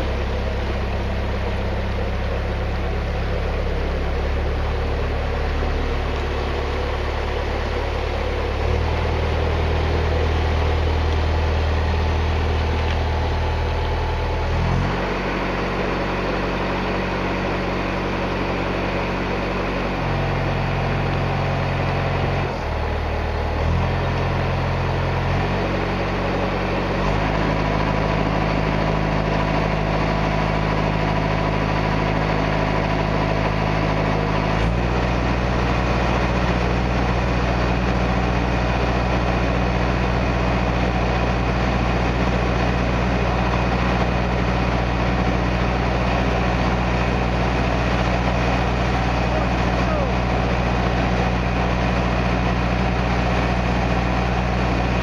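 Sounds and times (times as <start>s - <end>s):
boat diesel engine running: 0.0s - 55.0s.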